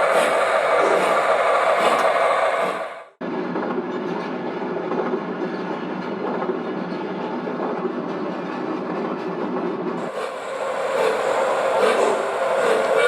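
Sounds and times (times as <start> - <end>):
model trains rolling on track: 0.0 - 13.0.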